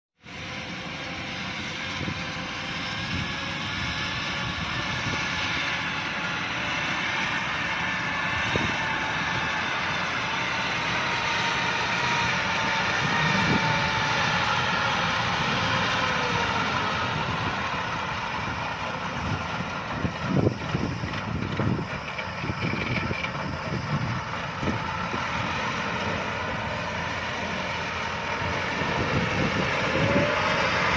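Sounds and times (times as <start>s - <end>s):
combine harvester running: 0.2s - 30.9s.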